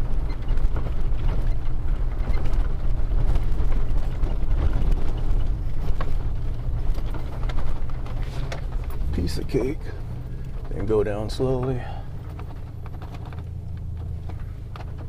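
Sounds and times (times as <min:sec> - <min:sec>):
body and suspension rattles: 0:00.0 - 0:15.0
van engine running low: 0:00.0 - 0:15.0.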